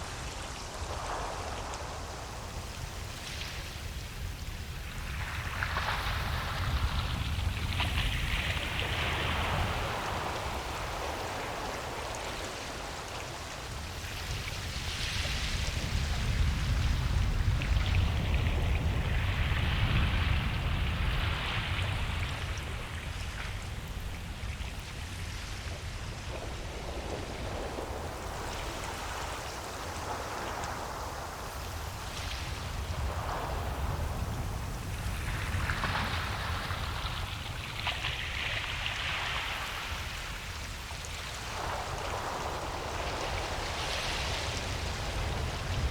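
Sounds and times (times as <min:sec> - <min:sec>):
ocean waves washing onto beach: 0:00.0 - 0:45.9.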